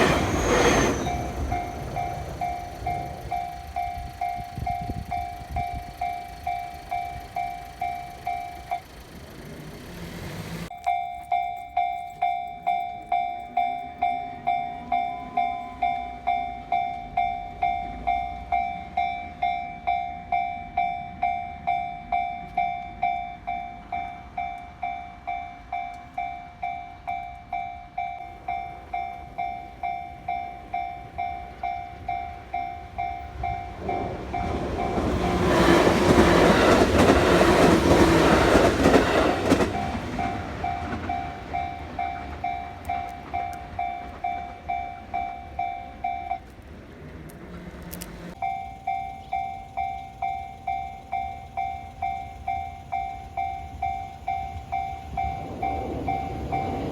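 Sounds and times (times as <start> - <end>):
level crossing warning bell dinging: 0.0 - 46.8, 48.2 - 56.9
train passing: 0.0 - 56.9.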